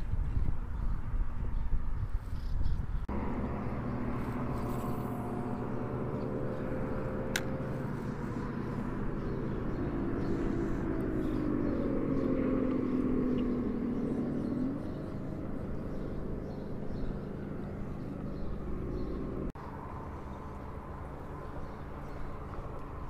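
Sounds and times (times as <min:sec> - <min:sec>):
low hum: 0:03.0 - 0:23.0
engine running: 0:03.1 - 0:23.0.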